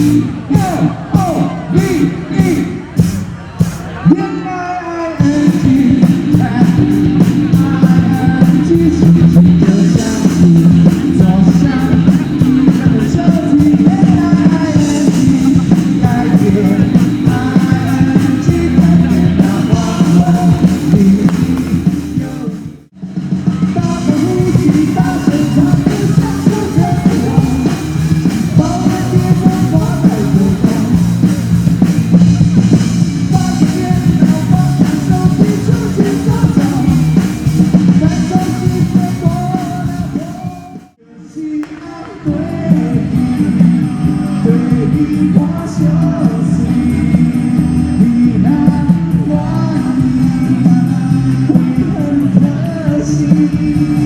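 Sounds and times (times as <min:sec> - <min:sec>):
live rock band playing: 0:00.0 - 0:04.4, 0:05.2 - 0:41.0, 0:41.7 - 0:54.0
drums: 0:00.0 - 0:54.0
person singing: 0:03.9 - 0:22.9, 0:23.5 - 0:54.0.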